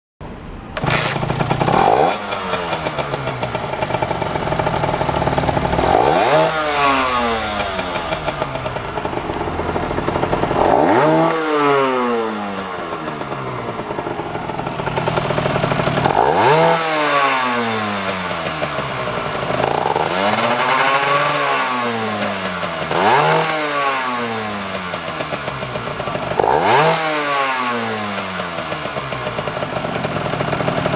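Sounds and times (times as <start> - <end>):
two-stroke motorcycle engine revving: 0.8 - 30.9.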